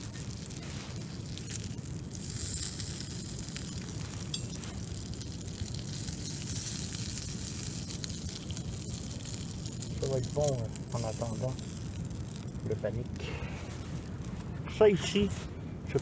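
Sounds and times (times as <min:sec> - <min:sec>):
bacon sizzling in a skillet: 0:00.0 - 0:12.8.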